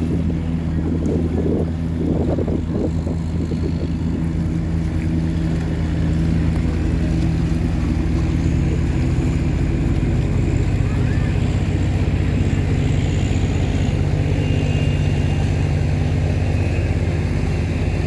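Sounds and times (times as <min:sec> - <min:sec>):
tugboat engine droning: 0:00.0 - 0:18.0.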